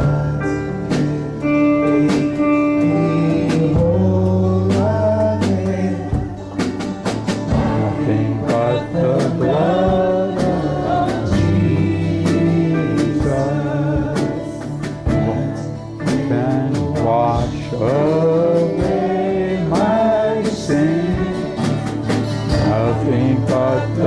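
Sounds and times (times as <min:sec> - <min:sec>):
person singing: 0:00.0 - 0:24.0
worship music instruments: 0:00.0 - 0:24.0.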